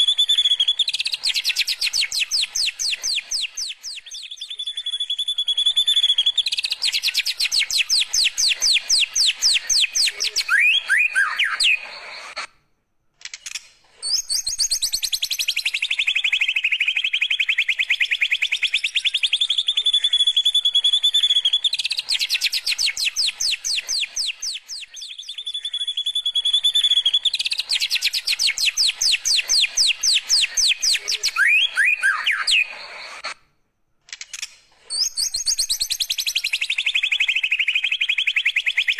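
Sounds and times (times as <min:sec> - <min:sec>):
songbird singing rapid whistles: 0:00.0 - 0:12.5, 0:14.0 - 0:33.4, 0:34.4 - 0:38.9.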